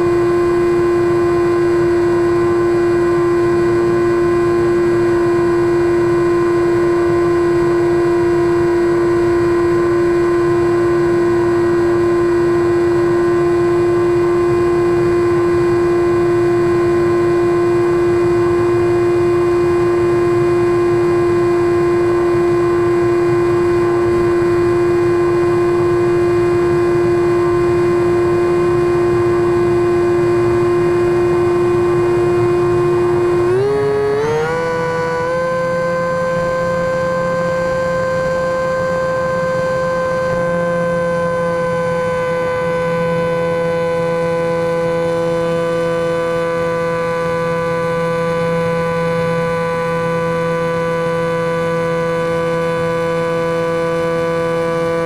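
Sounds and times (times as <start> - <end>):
electric motor droning hum: 0.0 - 55.0.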